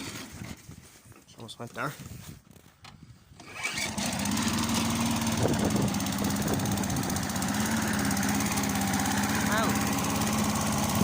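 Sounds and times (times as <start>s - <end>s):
lawn mower engine pull-starting: 0.0s - 0.8s, 2.5s - 11.0s.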